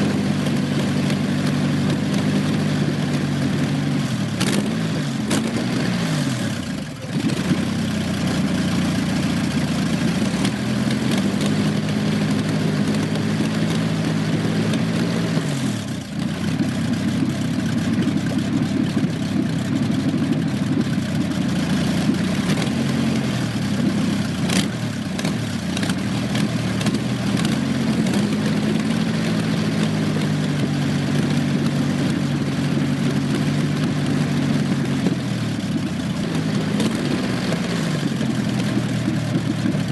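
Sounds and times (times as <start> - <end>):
loud aero engine revving: 0.0 - 39.9.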